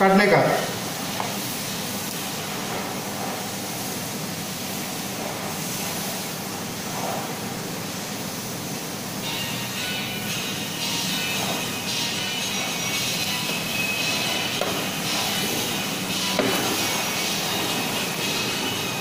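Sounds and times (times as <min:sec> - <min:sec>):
higher hiss: 0:00.0 - 0:19.0
steady background hiss: 0:00.0 - 0:19.0.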